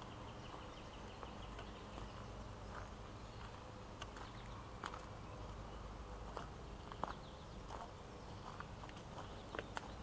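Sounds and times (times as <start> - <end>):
low steady background noise: 0.0 - 10.0.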